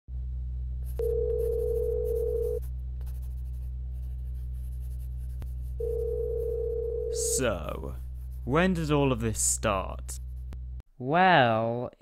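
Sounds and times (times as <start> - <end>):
low electrical hum: 0.1 - 12.0.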